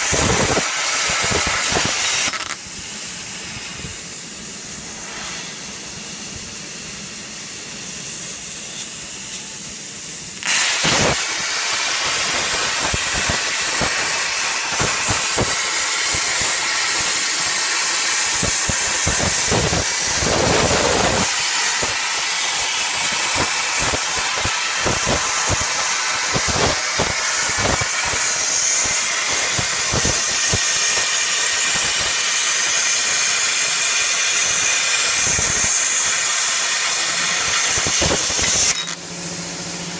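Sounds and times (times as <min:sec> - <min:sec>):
plasma torch cutting steel: 0:00.0 - 0:39.9.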